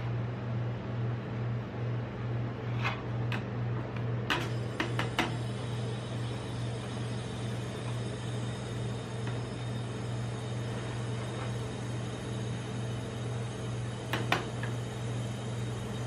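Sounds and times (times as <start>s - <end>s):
refrigeration unit humming: 0.0s - 16.0s.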